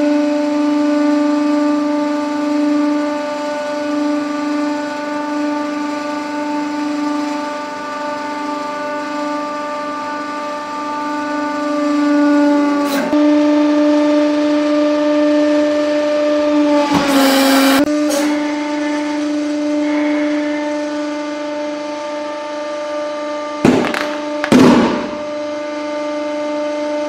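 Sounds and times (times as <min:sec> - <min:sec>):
hydraulic press humming whine: 0:00.0 - 0:27.0.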